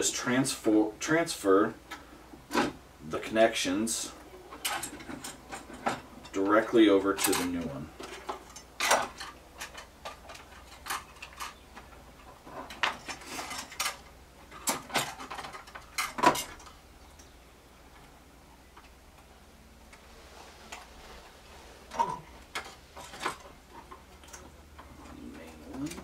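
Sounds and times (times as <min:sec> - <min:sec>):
handling noises: 0:04.3 - 0:26.0.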